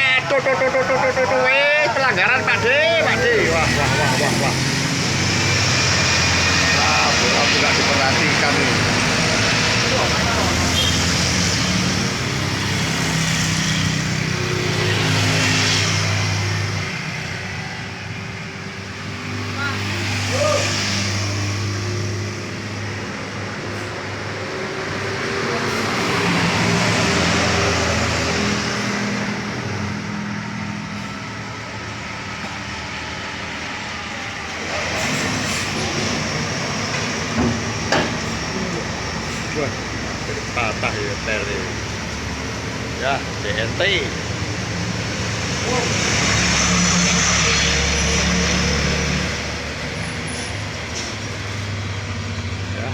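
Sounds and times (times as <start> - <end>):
heavy vehicle engine drone: 0.0 - 52.9
tyre and road noise: 0.0 - 52.9.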